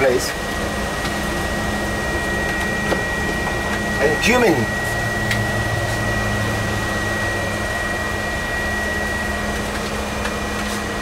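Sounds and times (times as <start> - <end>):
vent fan whirring: 0.0 - 11.0.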